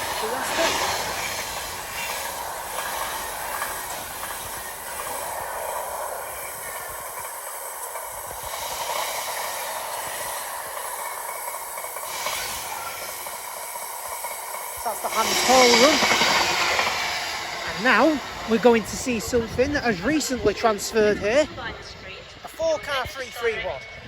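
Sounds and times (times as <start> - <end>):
freight train wagons rushing over rails: 0.0 - 22.8.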